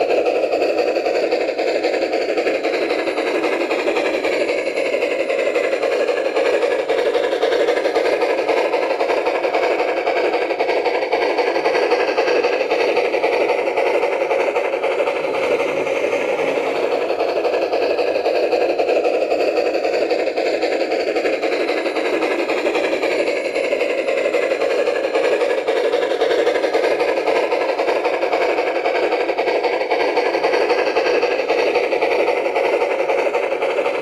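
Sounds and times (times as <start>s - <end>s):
model steam locomotive chuffing: 0.0s - 34.0s.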